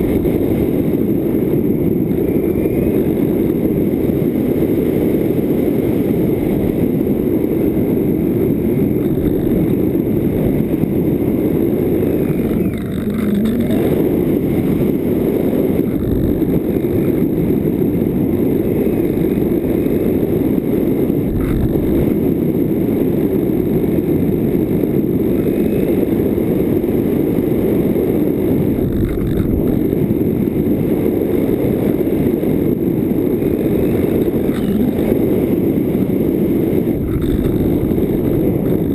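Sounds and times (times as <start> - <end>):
electric motor and propeller drone: 0.0 - 38.9
wind on microphone: 0.0 - 38.9.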